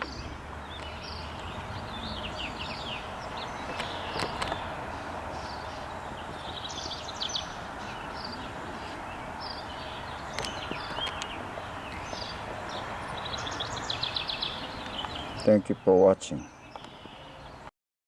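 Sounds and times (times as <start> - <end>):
steady background hiss: 0.0 - 17.6
small birds chirping: 0.0 - 17.7.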